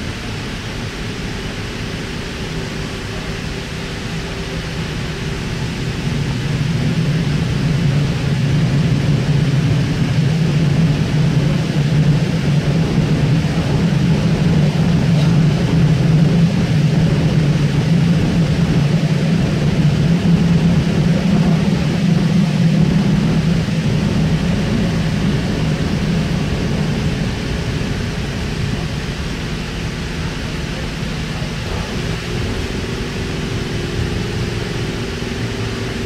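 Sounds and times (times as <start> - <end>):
train running noise: 0.0 - 36.0.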